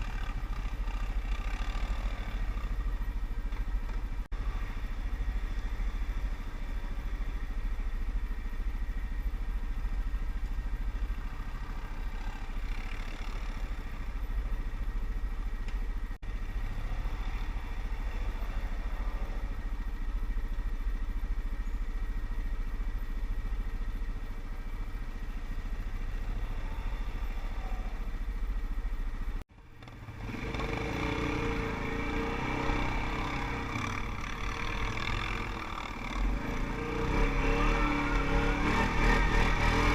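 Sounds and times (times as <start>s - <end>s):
quad bike engine rumbling: 0.0s - 39.9s.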